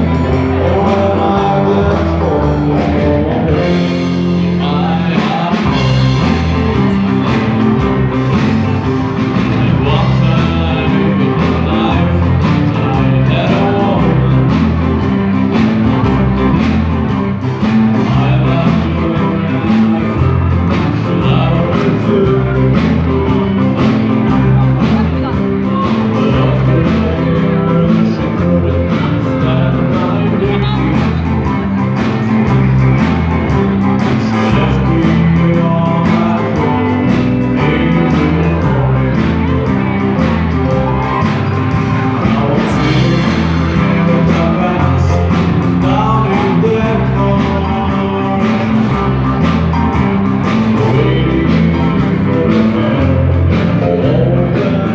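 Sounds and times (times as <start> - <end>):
bass line: 0.0 - 54.9
electric guitar: 0.0 - 54.9
person singing: 0.0 - 54.9
steady drum beat: 0.0 - 54.9.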